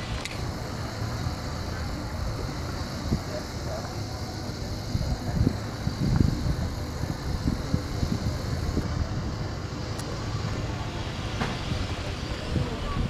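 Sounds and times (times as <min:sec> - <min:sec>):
faint open-air ambience: 0:00.0 - 0:13.0
wind buffeting microphone: 0:00.0 - 0:13.0.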